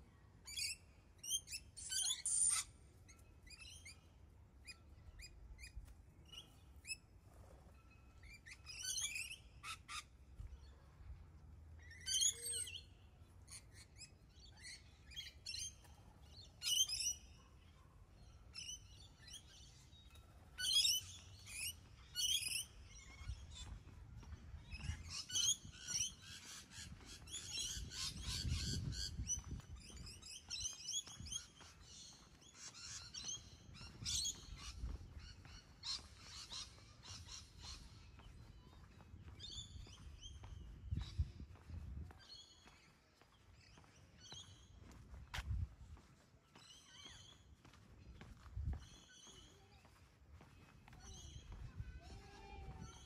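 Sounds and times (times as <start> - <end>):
birds chirping: 0.4 - 11.2, 11.8 - 53.0.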